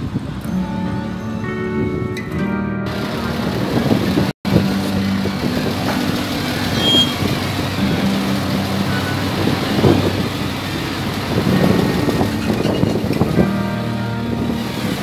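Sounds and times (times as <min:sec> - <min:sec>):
heavy diesel engine running: 0:02.8 - 0:15.0.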